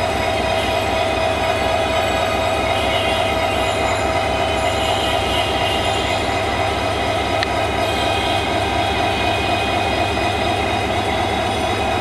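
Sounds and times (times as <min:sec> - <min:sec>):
diesel locomotive idling: 0:00.0 - 0:12.0.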